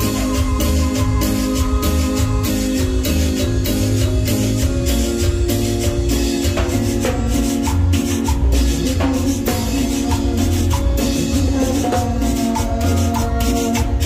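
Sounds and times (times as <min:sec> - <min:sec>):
heavy bass line: 0:00.0 - 0:14.0
keyboard melody: 0:00.0 - 0:14.0
live band playing cumbia: 0:00.0 - 0:14.0
percussion on steady beat: 0:00.0 - 0:14.0.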